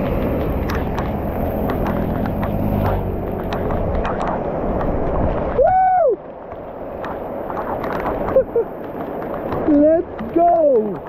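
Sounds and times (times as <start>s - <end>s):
rain drips and patters: 0.0s - 11.0s.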